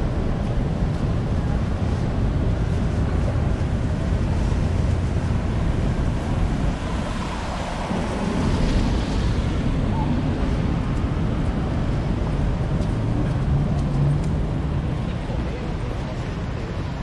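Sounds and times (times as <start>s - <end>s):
rain on an umbrella: 0.0s - 15.1s
traffic on a wet street: 0.0s - 17.0s.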